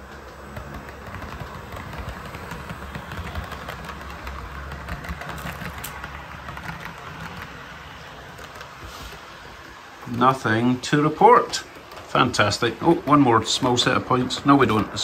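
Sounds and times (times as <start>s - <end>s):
model train motor hum: 0.0s - 15.0s.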